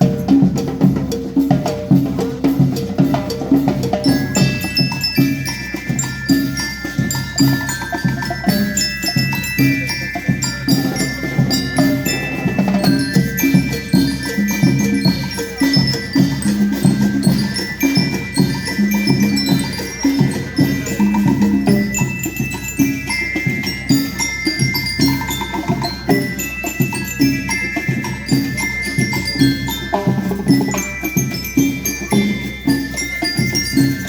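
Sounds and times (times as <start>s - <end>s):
bell lyres playing melody: 0.0s - 34.0s
drums beating: 0.0s - 34.0s.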